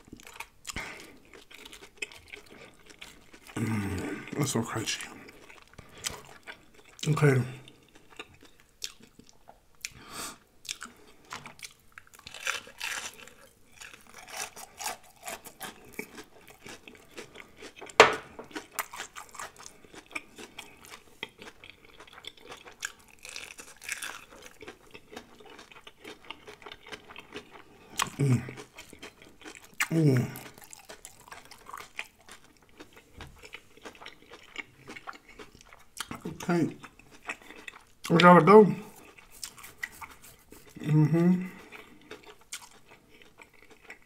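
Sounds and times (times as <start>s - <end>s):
crunchy chewing: 0.0s - 10.0s, 10.6s - 38.2s, 38.8s - 44.0s.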